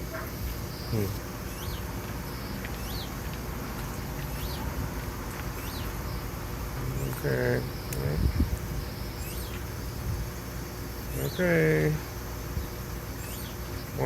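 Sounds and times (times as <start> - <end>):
songbirds chirping: 0.0 - 14.0
steady background hum: 0.0 - 14.0.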